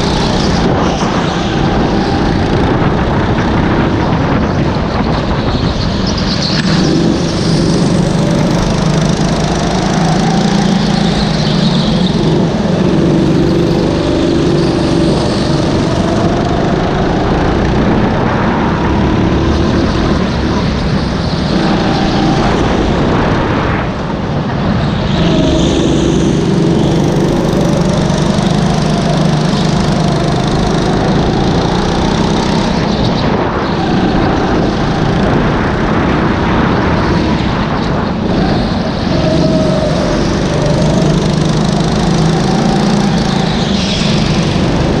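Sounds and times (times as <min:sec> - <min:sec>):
go-kart engine running hard: 0:00.0 - 0:45.0.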